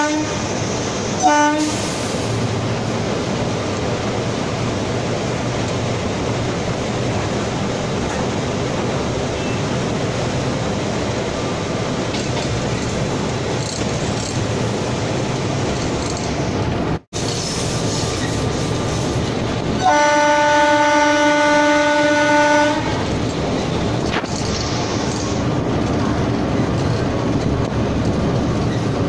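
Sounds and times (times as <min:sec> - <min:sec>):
locomotive cab running noise: 0:00.0 - 0:29.0.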